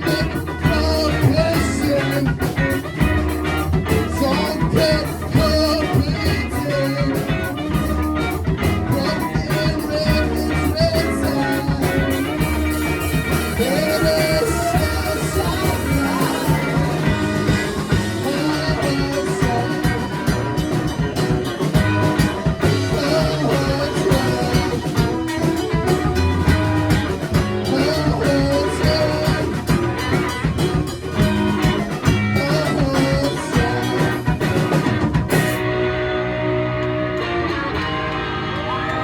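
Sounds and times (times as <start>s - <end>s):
rock band playing live: 0.0s - 39.0s.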